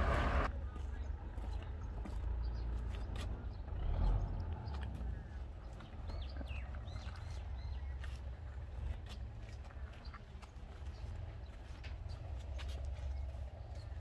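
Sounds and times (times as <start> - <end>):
steady low rumble: 0.0 - 14.0
small birds chirping: 0.4 - 14.0.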